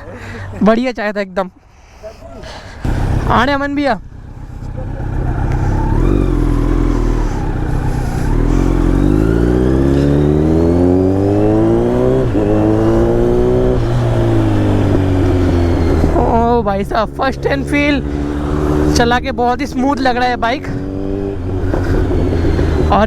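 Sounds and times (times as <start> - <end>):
motorcycle engine accelerating: 2.8 - 23.0.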